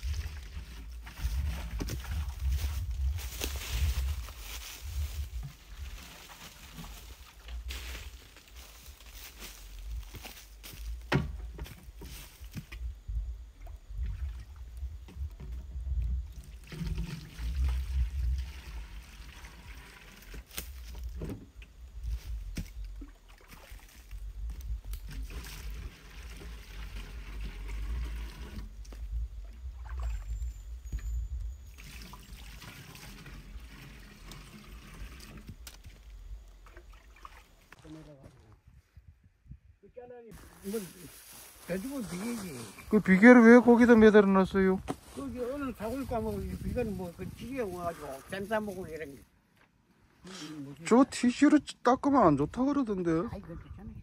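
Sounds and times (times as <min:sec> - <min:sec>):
water splashing and trickling: 0:00.0 - 0:11.1, 0:13.5 - 0:38.2, 0:40.3 - 0:49.2.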